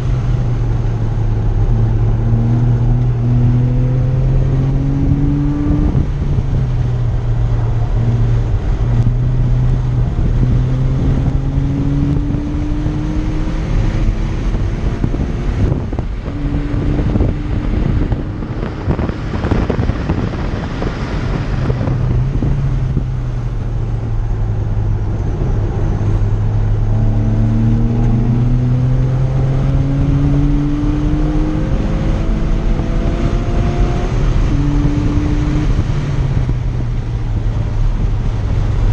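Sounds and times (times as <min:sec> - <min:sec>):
car engine accelerating: 0:00.0 - 0:38.9
wind and road noise: 0:00.0 - 0:38.9.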